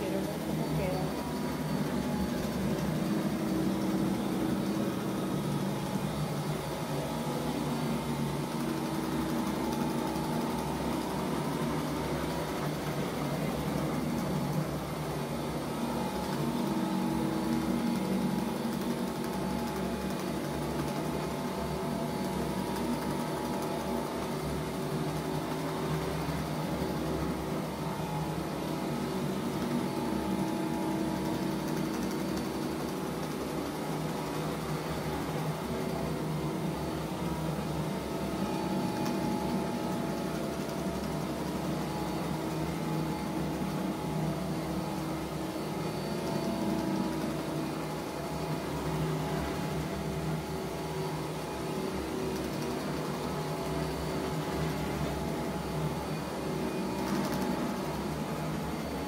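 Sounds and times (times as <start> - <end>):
carpet cleaning machine droning: 0.0 - 59.0.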